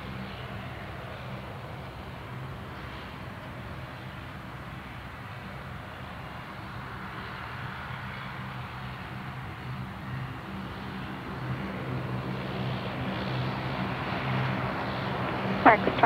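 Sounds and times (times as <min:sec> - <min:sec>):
airliner engines droning: 0:00.0 - 0:16.0.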